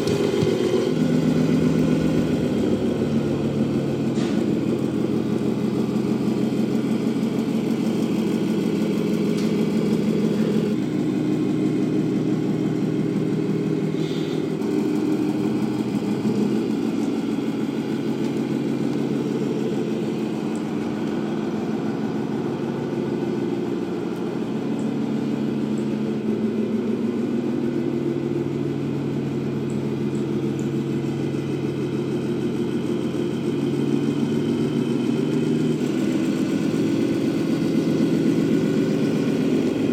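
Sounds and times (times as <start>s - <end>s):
simulated truck engine from speaker: 0.0s - 39.9s.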